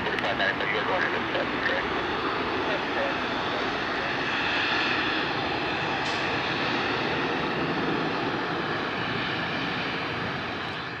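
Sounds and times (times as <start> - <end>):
jet engines at takeoff thrust: 0.0 - 11.0.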